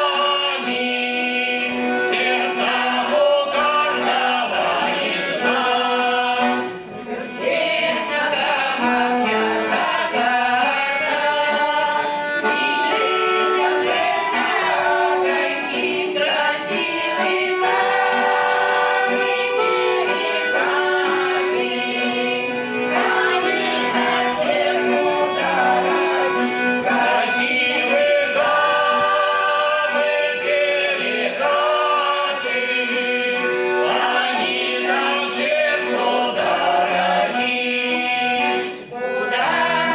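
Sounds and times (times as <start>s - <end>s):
folk vocal ensemble singing: 0.0s - 39.9s
instrumental accompaniment: 0.0s - 39.9s.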